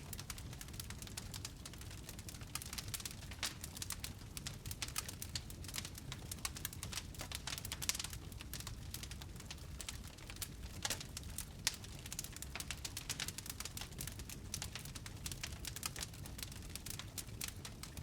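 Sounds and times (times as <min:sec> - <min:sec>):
low rumble of burning: 0:00.0 - 0:18.0
wood fire popping and snapping: 0:00.0 - 0:18.0.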